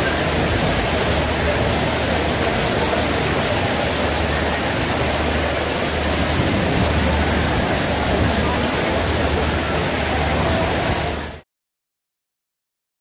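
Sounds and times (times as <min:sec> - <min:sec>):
heavy rain hissing: 0:00.0 - 0:11.4
low rumble: 0:00.0 - 0:11.4.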